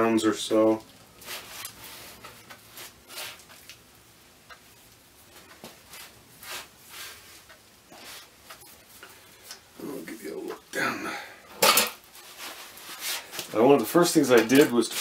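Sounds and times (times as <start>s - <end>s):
rustles and scrapes of handling: 0.0s - 3.8s, 4.8s - 10.7s, 11.6s - 15.0s.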